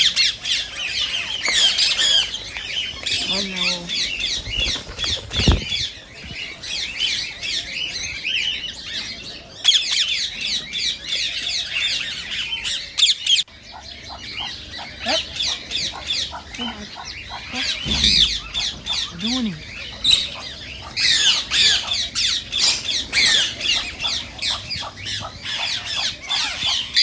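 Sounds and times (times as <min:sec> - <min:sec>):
parakeets squawking: 0:00.0 - 0:27.0.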